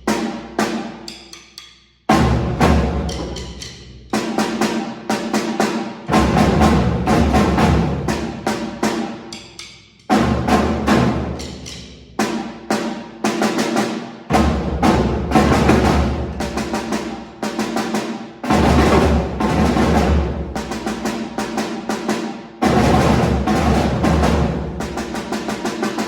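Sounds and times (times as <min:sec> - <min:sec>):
struck drum-like instruments ringing: 0:00.0 - 0:13.7, 0:14.3 - 0:26.0.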